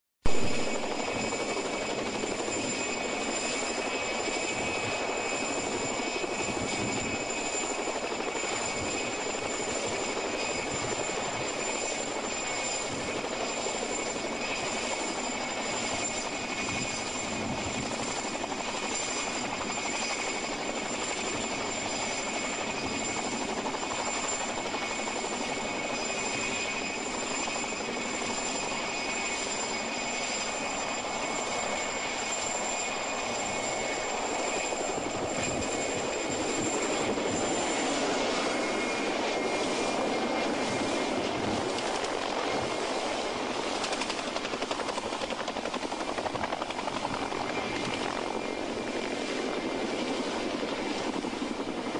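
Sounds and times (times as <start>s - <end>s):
helicopter turbine whine: 0.3s - 51.9s
helicopter rotor wash: 0.5s - 51.9s.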